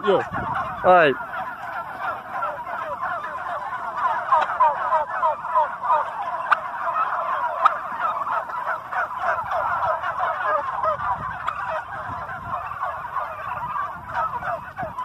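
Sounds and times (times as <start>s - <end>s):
turkeys gobbling: 0.0s - 15.0s.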